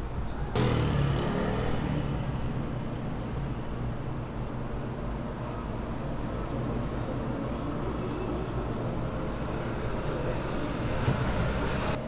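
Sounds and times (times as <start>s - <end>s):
street food stall rumble: 0.0s - 12.0s.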